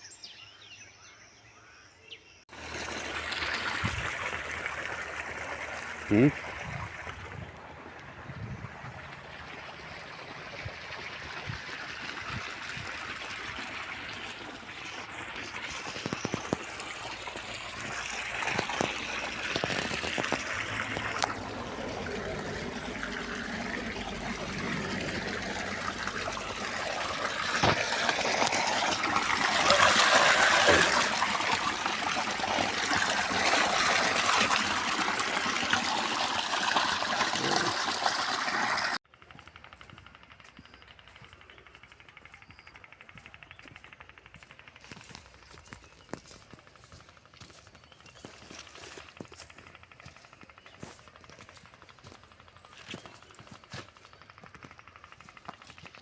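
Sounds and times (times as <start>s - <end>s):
stream water trickling: 2.5s - 39.0s, 43.1s - 56.0s.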